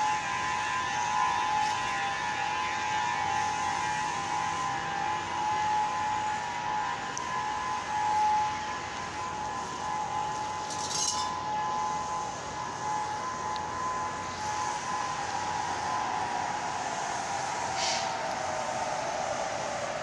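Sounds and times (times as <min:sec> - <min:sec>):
city traffic: 0:00.0 - 0:20.0
warning siren steady tone: 0:00.0 - 0:20.0.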